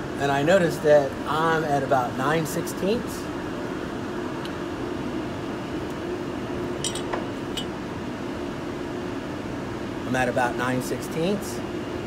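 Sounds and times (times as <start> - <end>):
ventilation hum: 0.0 - 12.0.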